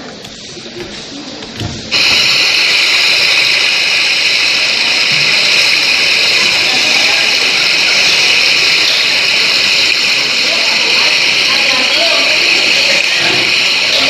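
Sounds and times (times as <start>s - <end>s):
loud high-pitched hiss: 0.0s - 14.0s.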